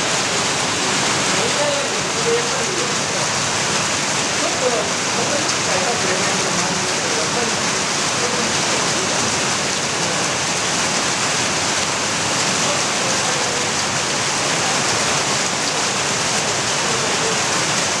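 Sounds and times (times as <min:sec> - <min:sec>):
water pouring into a pond: 0:00.0 - 0:18.0.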